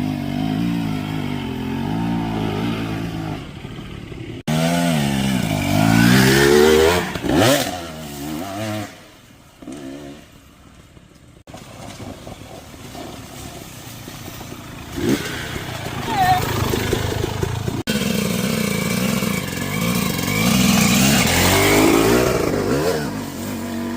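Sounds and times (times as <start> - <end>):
dirt bike engine revving: 0.0 - 10.6, 14.7 - 23.9.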